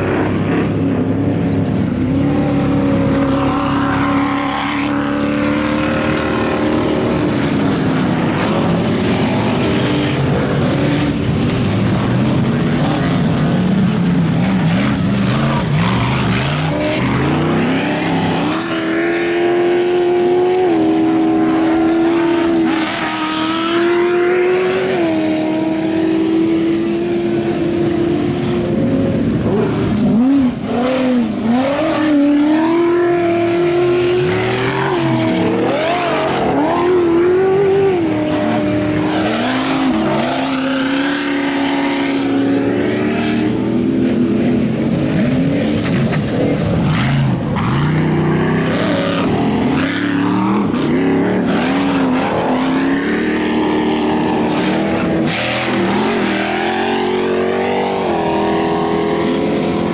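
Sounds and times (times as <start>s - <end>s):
race buggy engine revving: 0.0s - 59.9s.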